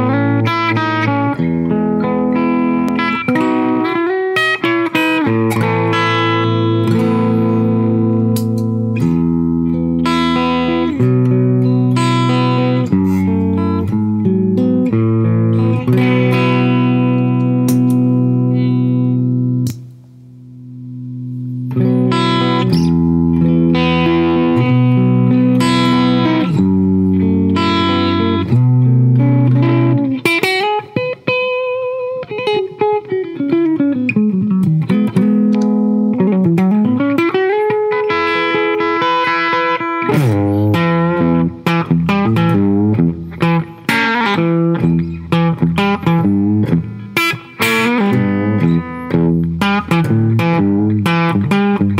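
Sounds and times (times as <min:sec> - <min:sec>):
electric guitar chords: 0:00.0 - 0:51.9.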